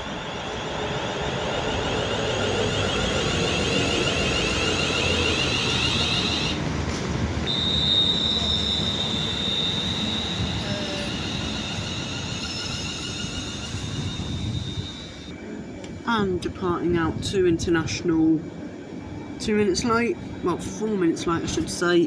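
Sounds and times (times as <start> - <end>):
electric train rumbling: 0.0 - 22.0
high train whine: 0.0 - 22.0.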